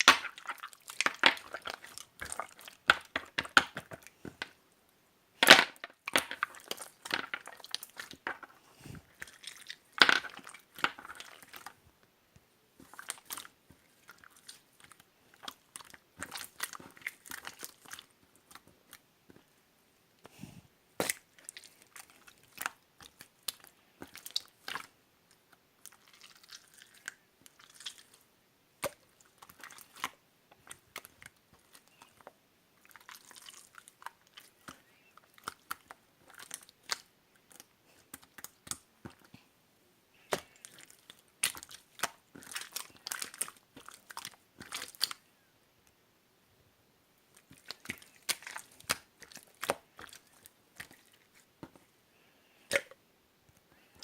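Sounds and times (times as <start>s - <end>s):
slime crackling and popping by hand: 0.0s - 4.6s, 5.4s - 11.8s, 12.8s - 19.4s, 21.0s - 28.2s, 28.8s - 39.4s, 40.2s - 45.2s, 47.3s - 51.8s.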